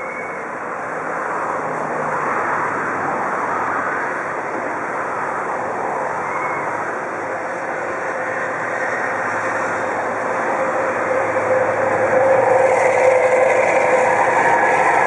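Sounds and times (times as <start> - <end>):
turntable rushing rumble: 2.7 - 15.0.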